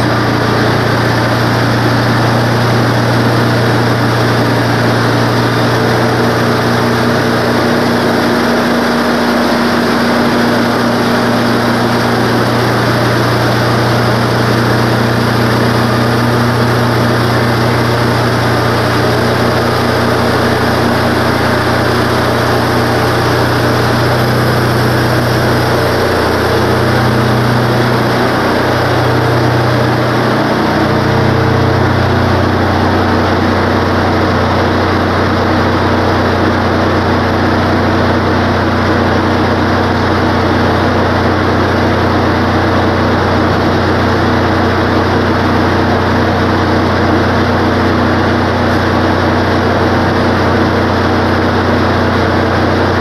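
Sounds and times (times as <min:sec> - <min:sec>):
band sawmill cutting a log: 0:00.0 - 0:53.0.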